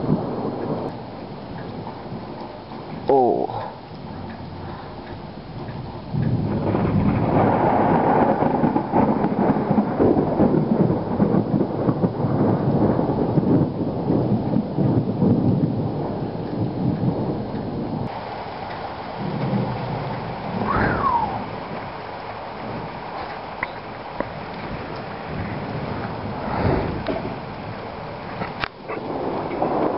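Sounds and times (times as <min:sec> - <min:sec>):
rain hissing: 0:00.0 - 0:29.9
thunder rumbling: 0:00.0 - 0:29.9.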